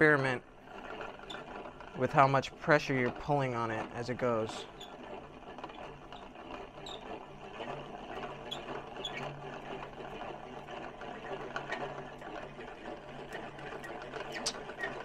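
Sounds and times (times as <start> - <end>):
yarn winder whirring: 0.0 - 15.0.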